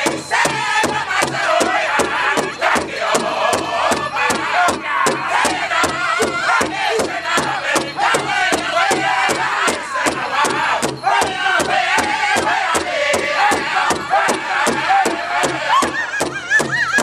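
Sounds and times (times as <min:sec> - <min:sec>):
men singing in unison: 0:00.0 - 0:16.9
fast even drumbeat: 0:00.0 - 0:17.0.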